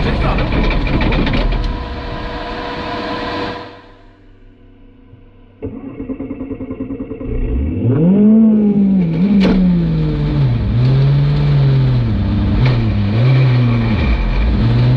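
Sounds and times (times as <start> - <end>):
car engine cranking and revving: 0.0 - 14.9.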